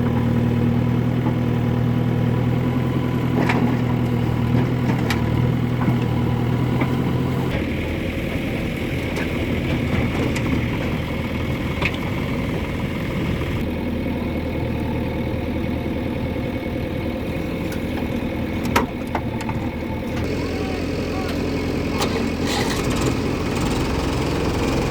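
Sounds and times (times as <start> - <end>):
diesel machinery engine running: 0.0 - 24.9.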